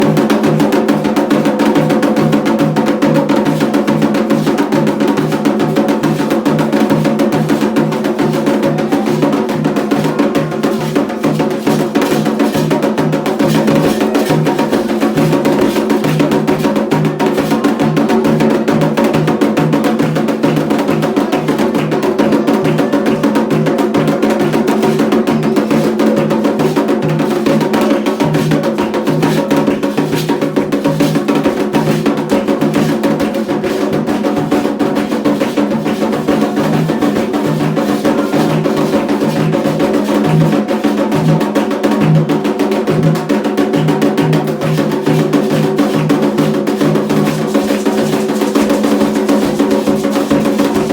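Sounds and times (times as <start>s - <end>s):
ritual drumming and percussion: 0.0s - 50.9s.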